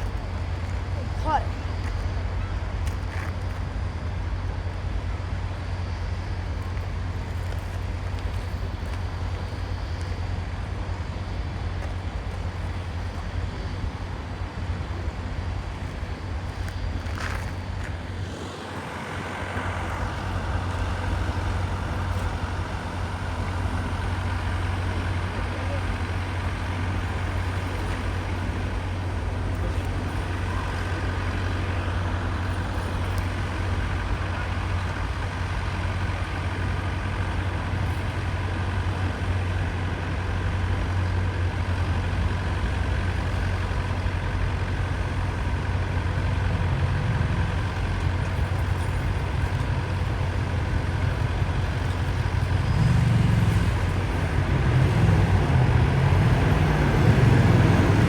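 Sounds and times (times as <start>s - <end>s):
low engine rumble: 0.0s - 58.0s.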